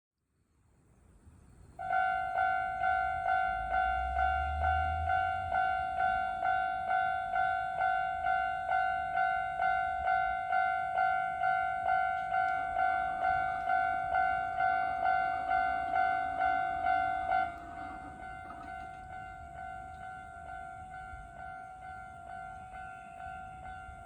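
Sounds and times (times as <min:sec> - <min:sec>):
passing train: 0:00.4 - 0:24.0
level-crossing warning bell: 0:01.8 - 0:24.0.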